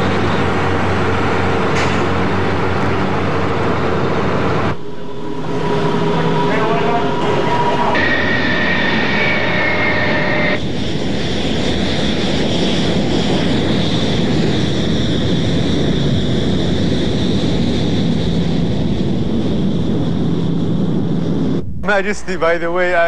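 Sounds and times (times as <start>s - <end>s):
jet engines rushing with whine: 0.0s - 23.0s.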